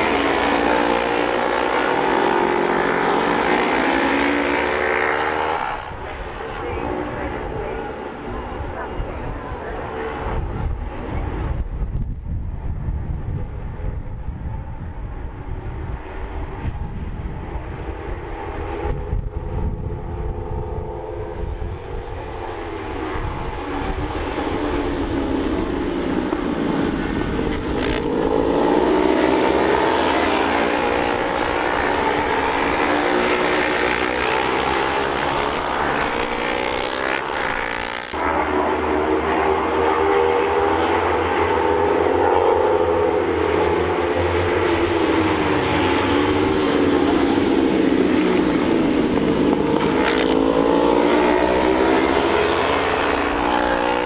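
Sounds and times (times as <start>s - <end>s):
motorcycle engines racing: 0.0s - 54.0s.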